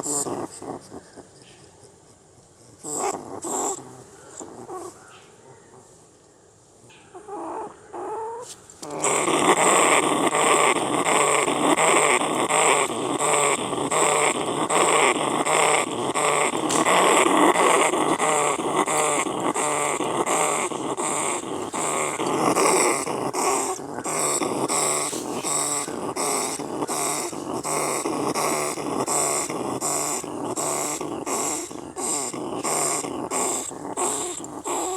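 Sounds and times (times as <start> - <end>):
rat squeals: 2.8 - 5.1, 7.1 - 34.9.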